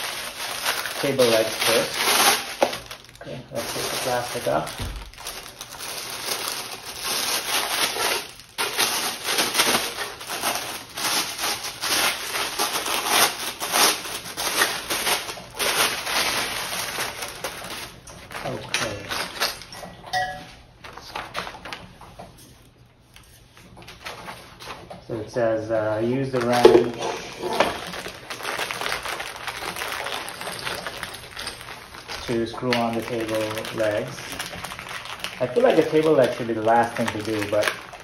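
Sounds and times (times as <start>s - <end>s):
plastic wrapping crinkling: 0.0s - 25.0s, 25.8s - 38.0s.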